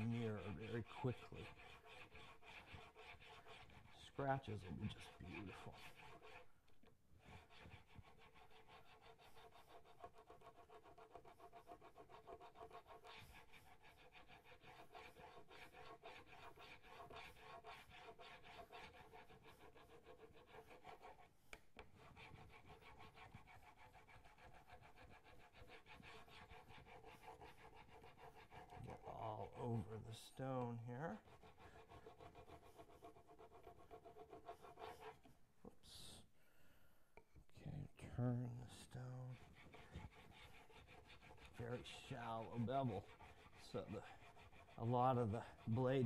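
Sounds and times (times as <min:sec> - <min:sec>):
chisel rubbing on wet whetstone: 0:00.0 - 0:06.5, 0:07.3 - 0:35.3, 0:38.7 - 0:46.0.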